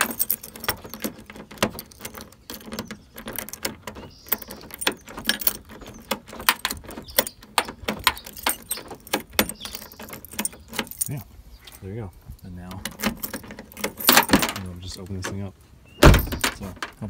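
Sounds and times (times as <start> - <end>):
key clicking in door lock: 0.0 - 11.2, 12.7 - 14.6, 16.0 - 16.6
keys jangling: 0.0 - 11.8, 12.8 - 14.6, 16.0 - 16.9.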